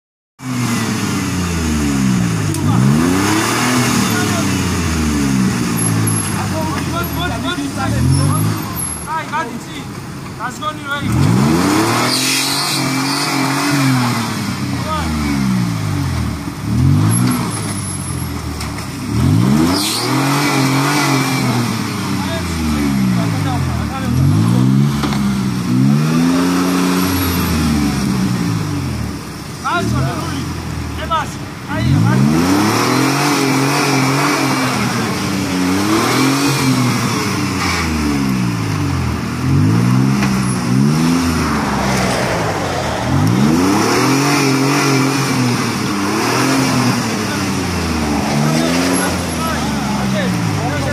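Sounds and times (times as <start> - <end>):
car engine revving: 0.4 - 50.9.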